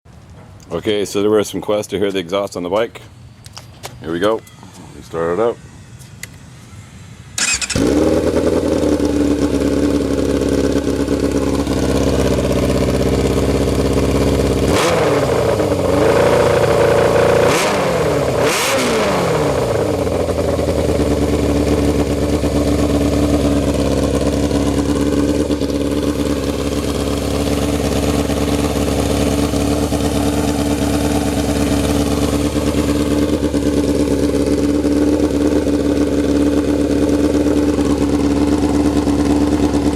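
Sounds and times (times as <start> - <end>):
motorcycle engine idling: 7.4 - 39.9
motorcycle engine revving: 7.4 - 39.9.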